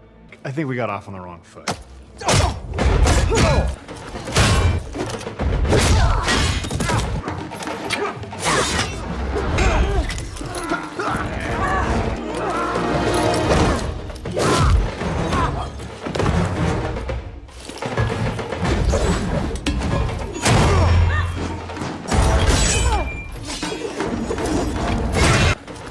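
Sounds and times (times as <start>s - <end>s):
dramatic music score: 0.0s - 25.9s.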